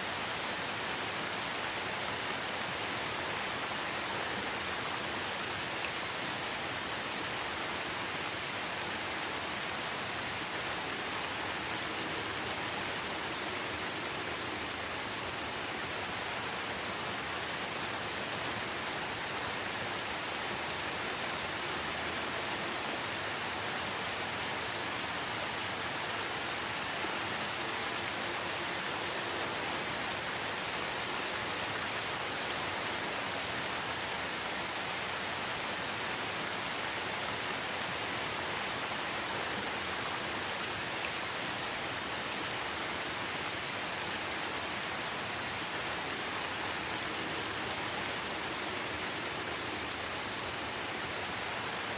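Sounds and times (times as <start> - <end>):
steady rainfall: 0.0 - 51.9.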